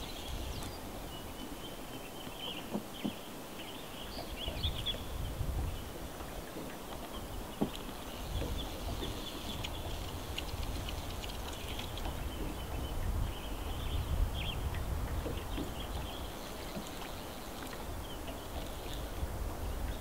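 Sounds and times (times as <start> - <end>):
wind rumble on microphone: 0.0 - 3.2, 4.0 - 20.0
small birds chirping: 0.0 - 19.2.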